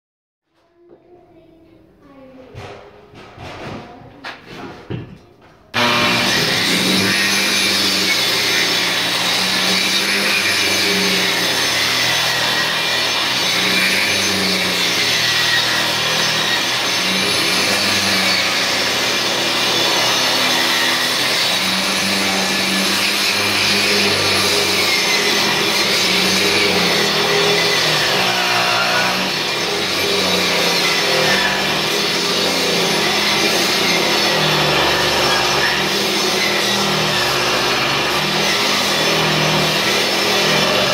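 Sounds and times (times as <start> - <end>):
angle grinder grinding mortar: 5.7 - 40.9.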